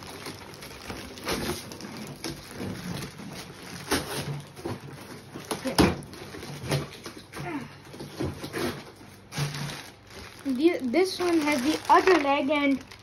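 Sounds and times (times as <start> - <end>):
cardboard packaging handled: 0.0 - 13.0
plastic bags crinkling: 0.0 - 13.0.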